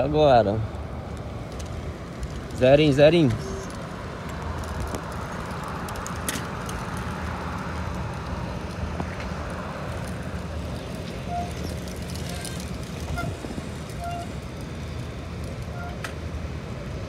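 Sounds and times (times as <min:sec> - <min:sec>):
bicycle wheel rolling on asphalt: 0:00.0 - 0:17.0.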